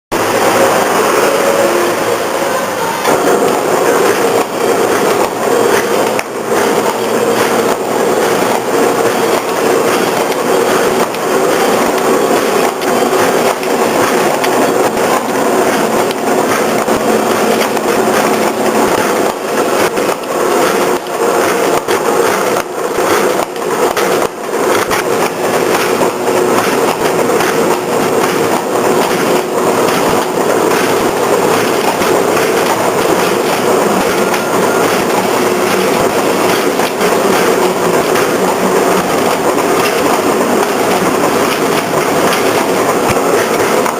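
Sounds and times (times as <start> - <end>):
machine mechanical clatter: 3.0 - 43.9.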